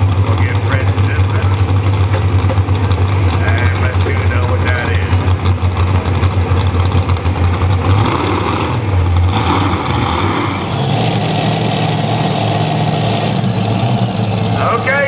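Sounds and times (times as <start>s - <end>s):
tractor engine idling: 0.0s - 15.0s
tractor engines low throb: 0.0s - 15.0s.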